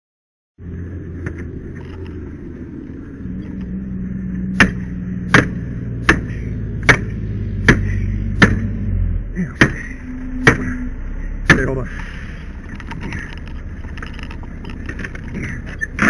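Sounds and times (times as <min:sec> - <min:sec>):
low engine hum: 0:00.6 - 0:16.0.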